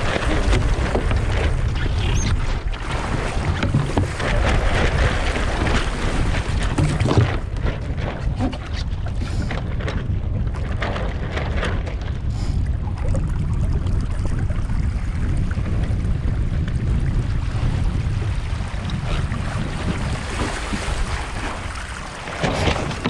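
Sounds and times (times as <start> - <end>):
water splashing along hull: 0.0 - 23.0
wind buffeting microphone: 0.0 - 23.0.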